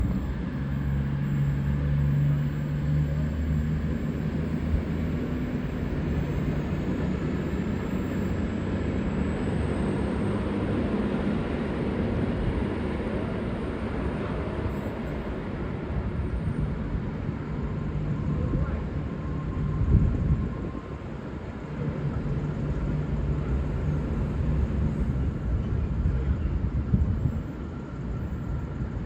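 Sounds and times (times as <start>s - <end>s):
diesel train engines droning: 0.0s - 29.0s.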